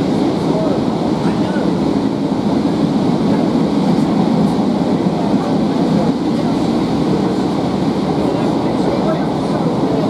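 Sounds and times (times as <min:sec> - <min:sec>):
diesel railcar engine: 0:00.0 - 0:10.0
train wheels on rails: 0:00.0 - 0:10.0.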